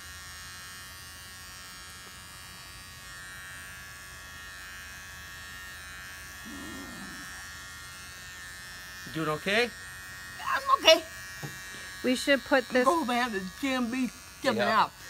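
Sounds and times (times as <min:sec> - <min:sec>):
electric trimmer buzzing: 0:00.0 - 0:15.0.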